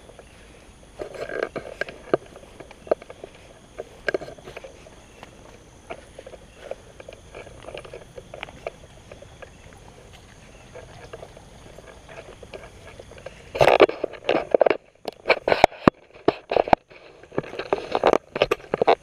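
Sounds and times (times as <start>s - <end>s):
footsteps on concrete: 0.0s - 15.2s.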